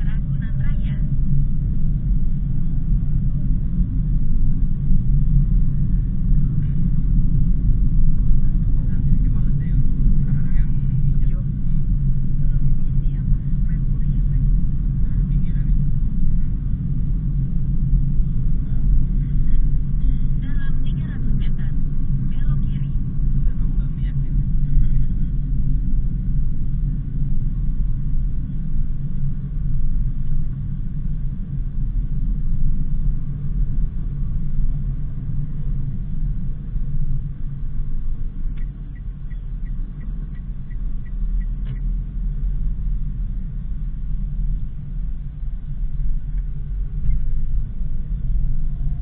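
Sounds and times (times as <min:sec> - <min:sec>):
engine and road noise: 0:00.0 - 0:49.0.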